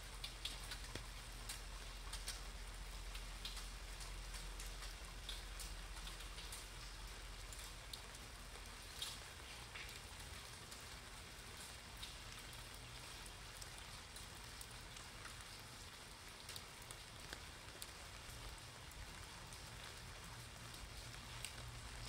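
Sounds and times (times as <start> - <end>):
rain on wet pavement: 0.0 - 22.0.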